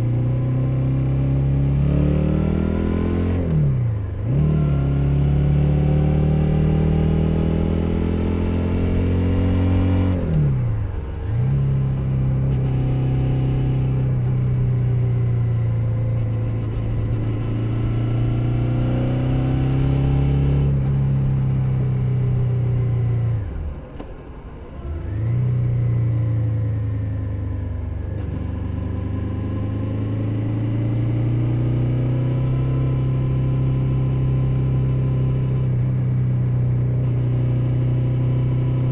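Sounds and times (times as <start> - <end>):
motorcycle engine revving: 0.0 - 23.8, 24.9 - 38.9.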